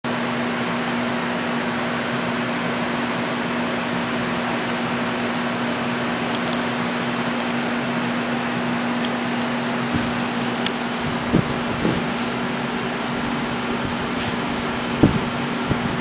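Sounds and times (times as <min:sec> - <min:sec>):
electric fan air rush: 0:00.0 - 0:16.0.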